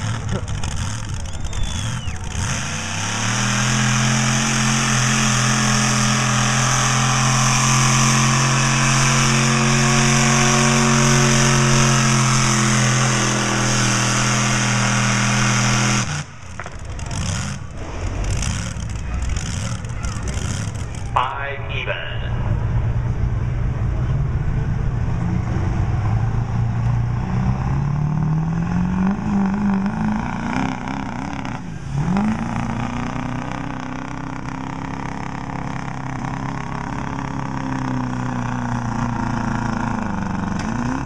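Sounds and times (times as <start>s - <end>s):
pickup truck engine revving: 0.0s - 21.3s, 22.6s - 41.0s.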